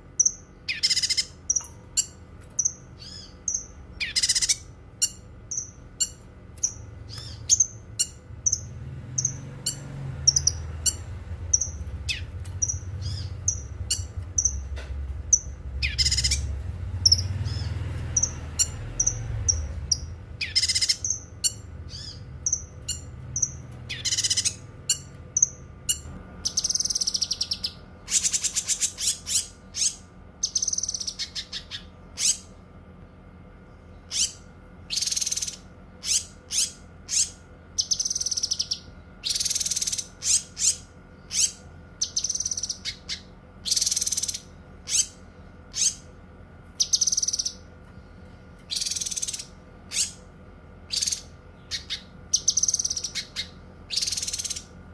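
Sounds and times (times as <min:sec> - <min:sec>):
bird chirping and trilling: 0:00.0 - 0:32.7, 0:33.6 - 0:47.7, 0:48.6 - 0:54.8.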